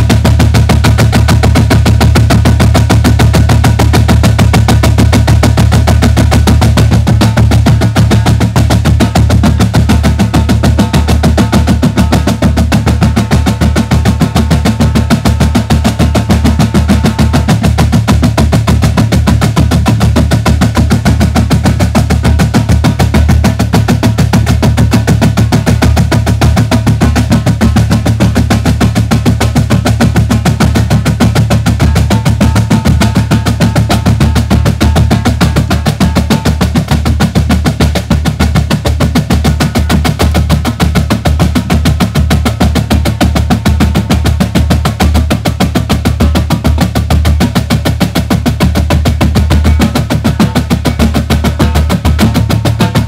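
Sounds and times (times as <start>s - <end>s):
marching drumline playing: 0.0s - 53.0s.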